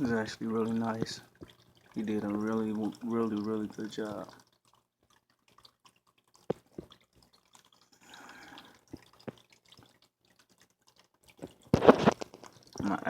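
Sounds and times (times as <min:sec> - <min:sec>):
soft water trickle: 0:00.0 - 0:13.0
water dripping into pool: 0:00.0 - 0:13.0.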